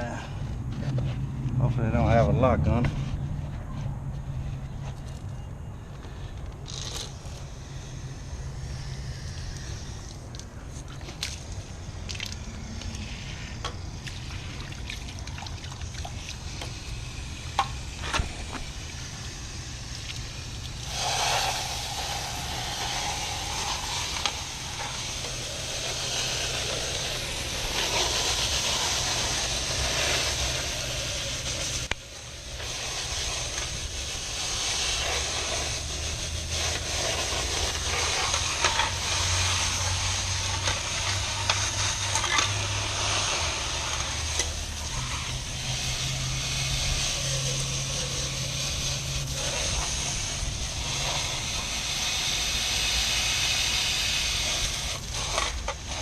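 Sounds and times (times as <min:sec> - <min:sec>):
low hum of running equipment: 0:00.0 - 0:56.0
water spraying from a hose: 0:06.6 - 0:56.0.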